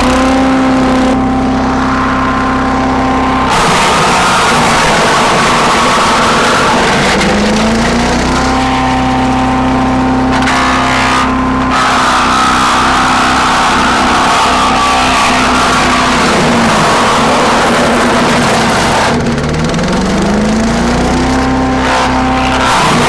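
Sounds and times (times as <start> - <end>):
dense grinding noise: 0.0 - 23.0
wood chipper engine running: 0.0 - 23.0.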